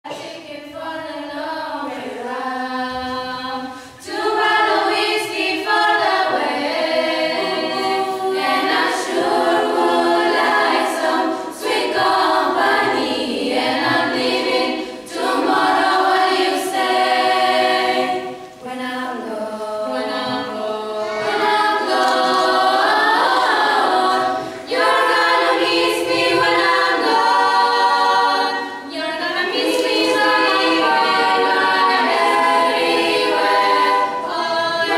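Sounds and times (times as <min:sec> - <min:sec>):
girls choir singing a cappella: 0:00.0 - 0:34.9.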